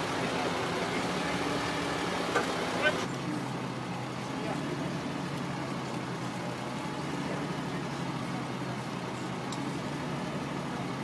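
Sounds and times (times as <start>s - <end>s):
street traffic noise: 0.0s - 11.0s
vehicle engines idling: 0.0s - 11.0s.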